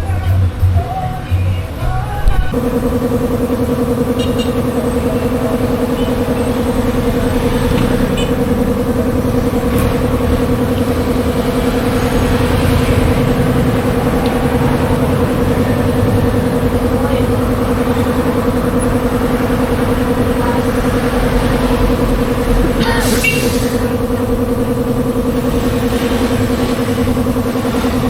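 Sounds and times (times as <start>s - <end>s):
machine humming steadily: 2.2s - 28.0s.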